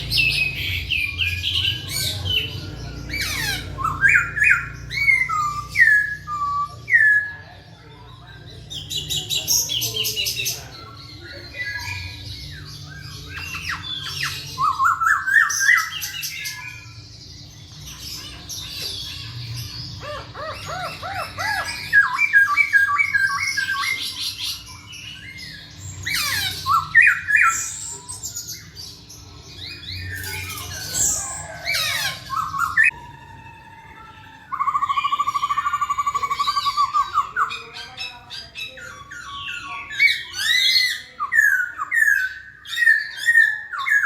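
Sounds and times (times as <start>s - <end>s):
bird singing squawks and whistles: 0.0s - 44.0s.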